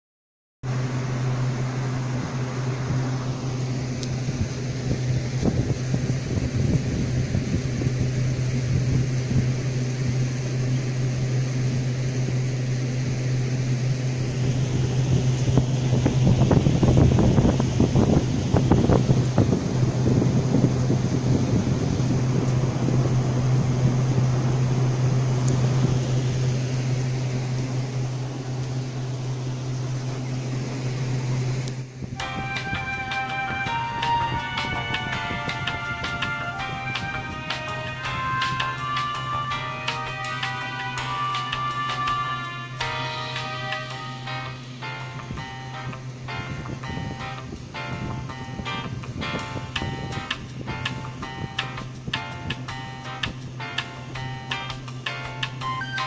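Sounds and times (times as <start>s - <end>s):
air cooler fan humming: 0.6s - 56.0s.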